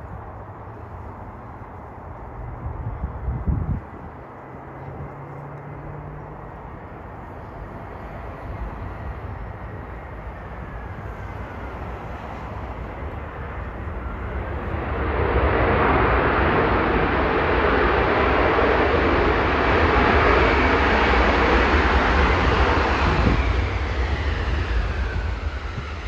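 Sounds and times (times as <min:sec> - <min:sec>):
wind buffeting microphone: 0:00.0 - 0:05.9, 0:06.5 - 0:26.0
aircraft engines roaring: 0:00.0 - 0:26.0.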